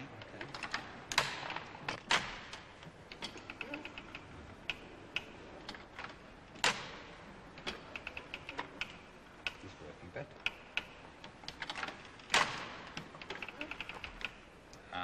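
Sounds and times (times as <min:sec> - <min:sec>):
sewing machine clicking and clacking: 0:00.2 - 0:14.5.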